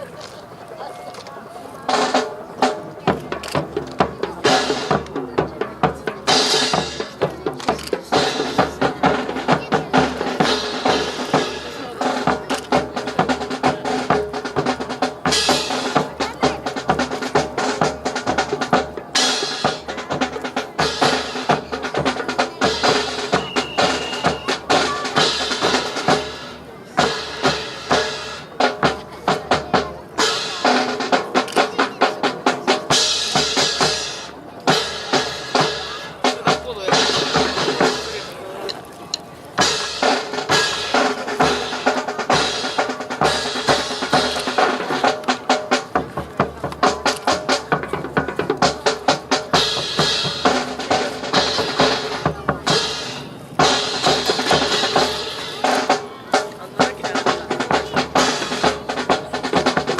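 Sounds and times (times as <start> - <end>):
snare and bass drum cadence: 1.9 - 59.9.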